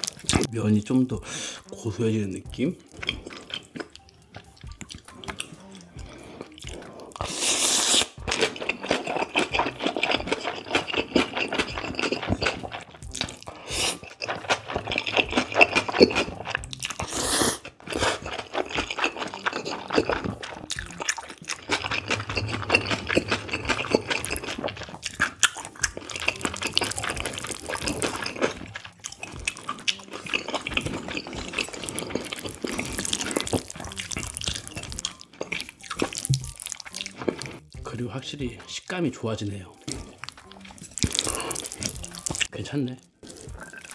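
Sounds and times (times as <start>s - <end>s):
wet chewing: 0.0s - 0.5s, 2.4s - 38.7s, 39.3s - 43.9s
slurping noodles: 5.2s - 37.7s, 39.8s - 42.5s, 43.2s - 43.9s.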